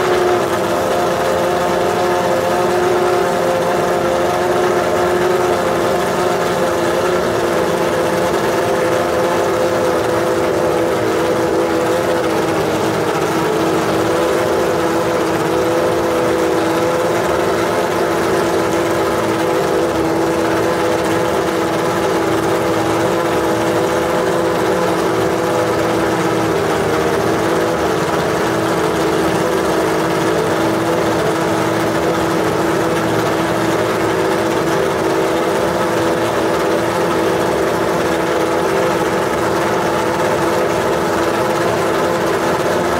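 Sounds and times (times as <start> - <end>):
race car engine idling: 0.0 - 42.9.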